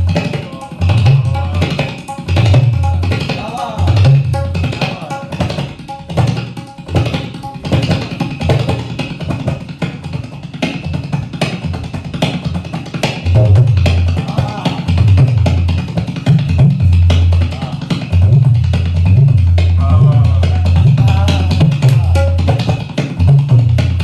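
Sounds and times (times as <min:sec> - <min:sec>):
tabla treble drum strokes: 0:00.0 - 0:24.0.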